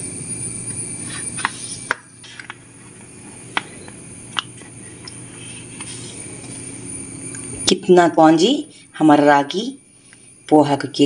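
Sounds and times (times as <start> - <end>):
steady high-pitched tone: 0.0 - 11.0.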